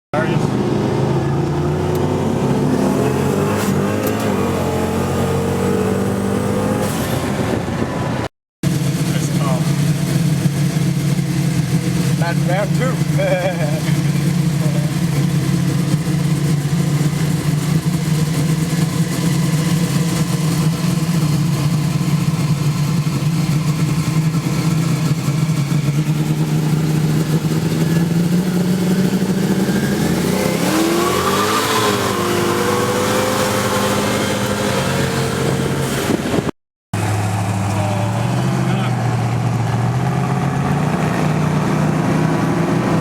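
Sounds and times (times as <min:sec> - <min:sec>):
car engine revving: 0:00.2 - 0:43.0.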